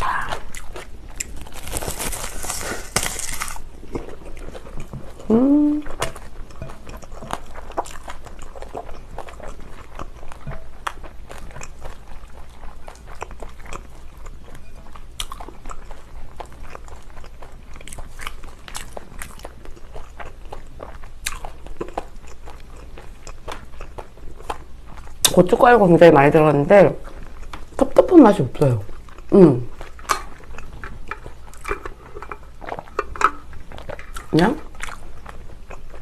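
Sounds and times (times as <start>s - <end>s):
wet crunchy chewing: 0.0s - 25.5s, 27.0s - 36.0s.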